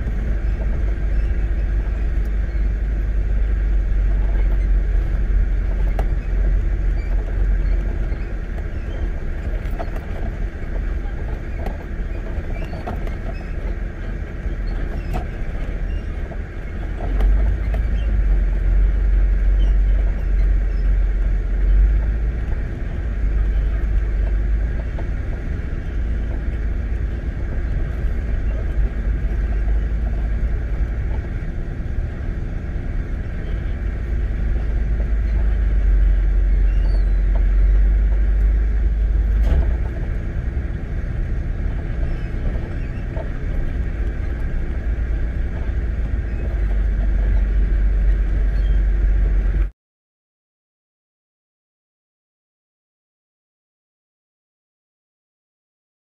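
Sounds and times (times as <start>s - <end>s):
wind buffeting microphone: 0.0s - 49.7s.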